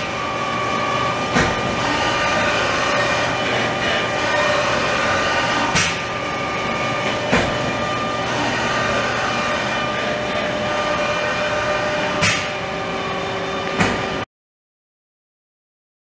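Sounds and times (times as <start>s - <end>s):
lathe humming and whining: 0.0s - 14.3s.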